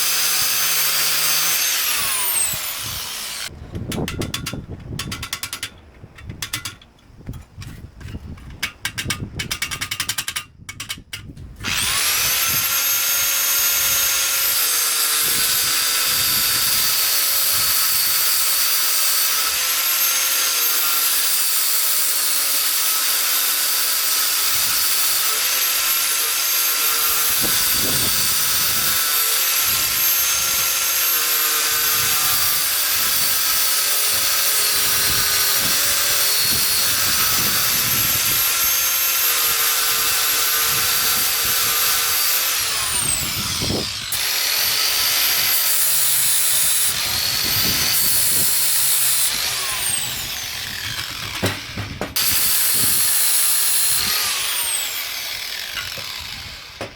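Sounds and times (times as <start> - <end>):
electric drill running: 0.0 - 3.5, 11.6 - 56.9.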